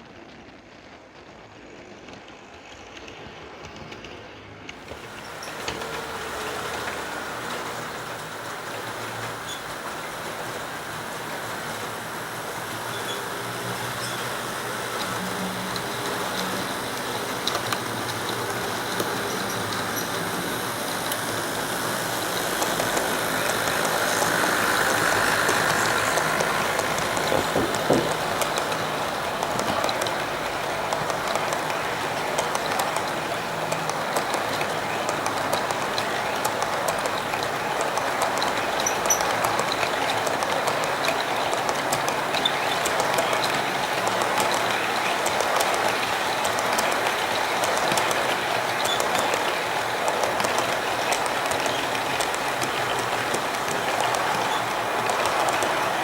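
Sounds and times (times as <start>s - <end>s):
wheels clicking over rail joints: 0.0s - 56.0s
model train motor whir: 0.1s - 56.0s.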